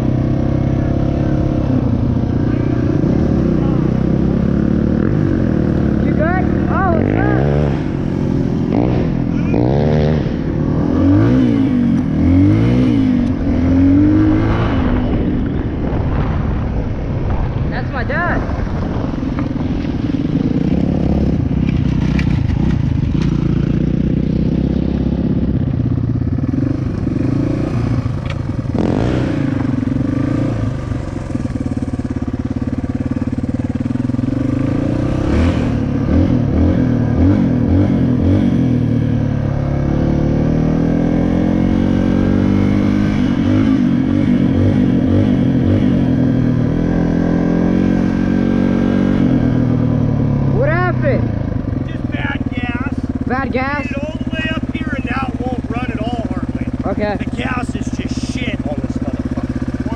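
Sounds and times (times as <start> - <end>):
dirt bike engine revving: 0.0 - 15.5, 19.4 - 59.9.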